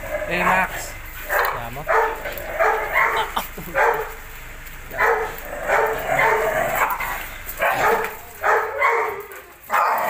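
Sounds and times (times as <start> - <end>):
dogs barking harshly: 0.0 - 10.0.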